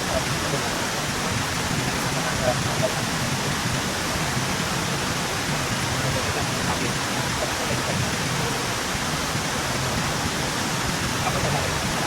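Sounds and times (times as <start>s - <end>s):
faint voices: 0.0s - 4.3s, 4.9s - 10.2s, 11.1s - 12.0s
steady rushing noise: 0.0s - 12.0s.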